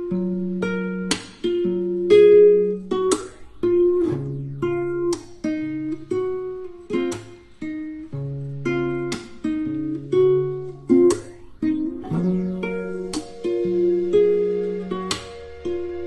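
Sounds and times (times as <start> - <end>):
acoustic guitar picking melody: 0.0 - 16.0.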